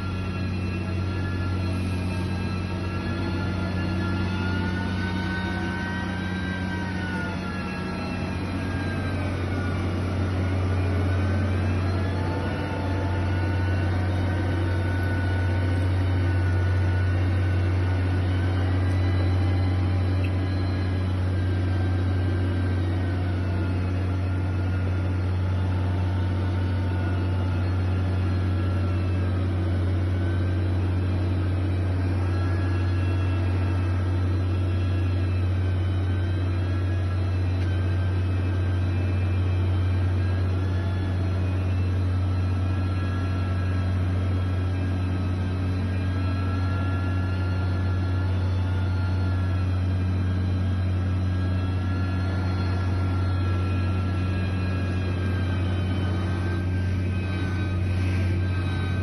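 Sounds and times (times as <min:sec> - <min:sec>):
engine whine: 0:00.0 - 0:59.0
heavy machine engine running: 0:00.0 - 0:59.0.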